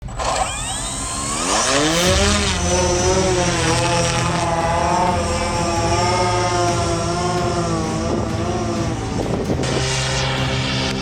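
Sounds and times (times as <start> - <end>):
drone propellers humming: 0.0 - 11.0.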